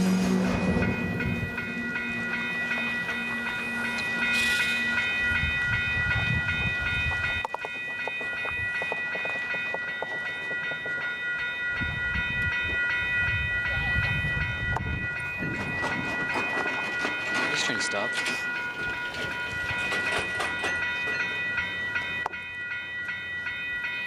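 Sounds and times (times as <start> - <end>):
crossing bell ringing: 0.0 - 24.0
freight train rumbling: 0.0 - 24.0.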